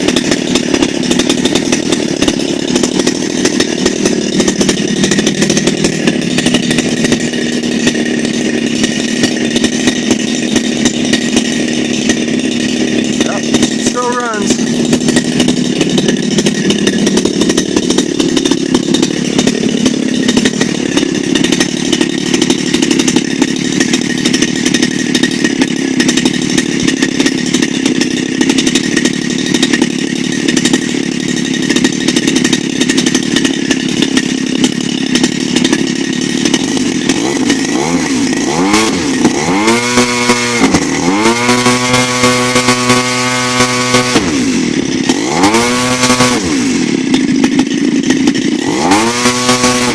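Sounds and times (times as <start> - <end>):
two-stroke engine idling and revving: 0.0 - 49.9.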